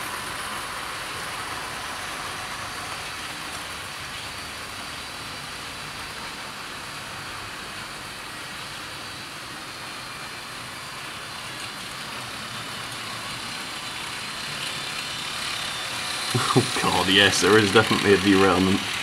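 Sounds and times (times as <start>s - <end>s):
model train whirring: 0.0s - 19.0s.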